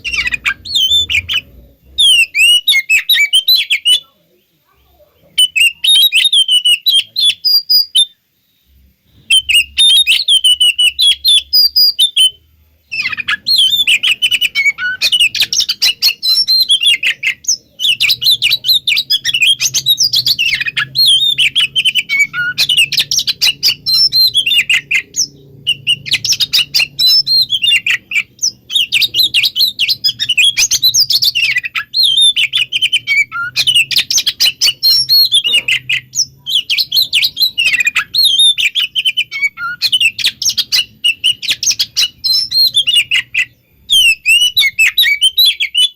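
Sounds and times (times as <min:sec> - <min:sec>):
magpie-robin singing: 0:00.0 - 0:45.9.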